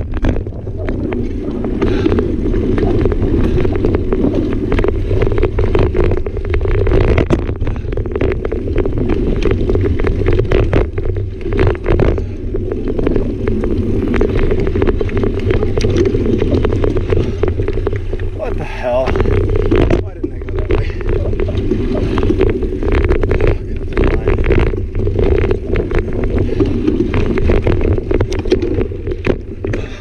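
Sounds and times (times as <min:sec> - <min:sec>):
bike clicks and rattles: 0:00.0 - 0:30.0
wind rumbling on microphone: 0:00.0 - 0:30.0.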